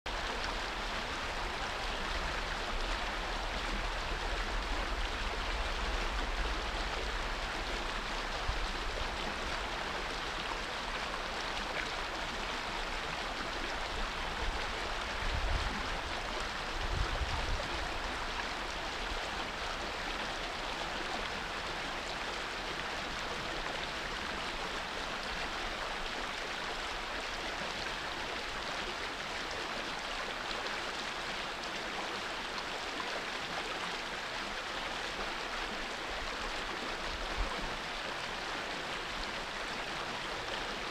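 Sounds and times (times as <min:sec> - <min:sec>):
creek flowing over rocks: 0:00.1 - 0:40.9.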